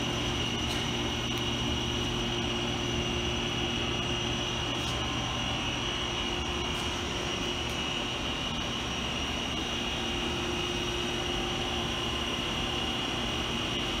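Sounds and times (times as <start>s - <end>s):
grinder machine hum and whine: 0.0s - 14.0s.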